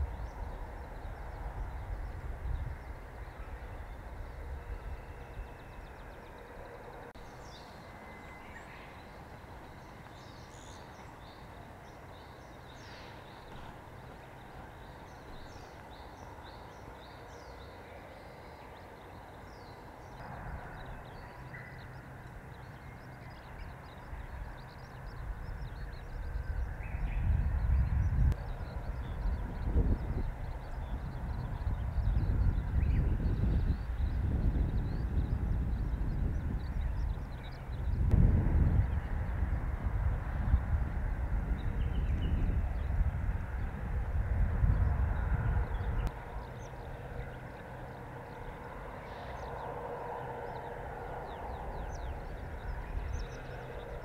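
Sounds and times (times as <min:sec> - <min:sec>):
small birds chirping: 0:00.0 - 0:38.1, 0:44.6 - 0:54.0
low outdoor rumble: 0:00.0 - 0:54.0.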